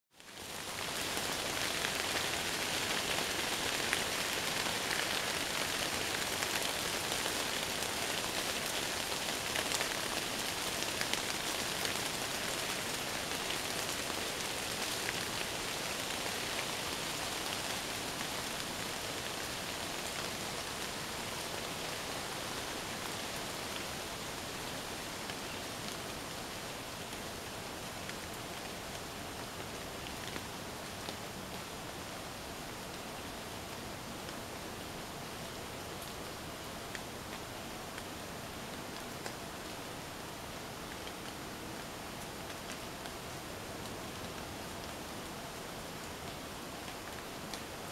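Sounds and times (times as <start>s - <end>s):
rain falling on leaves: 0.1s - 47.9s.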